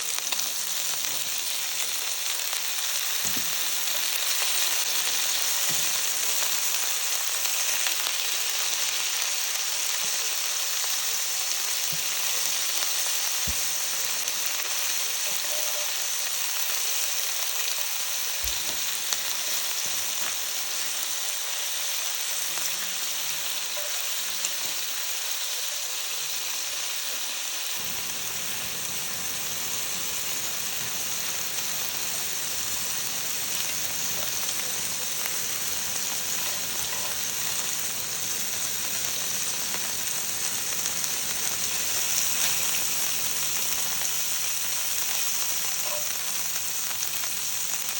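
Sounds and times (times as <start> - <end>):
food sizzling: 0.0 - 47.9.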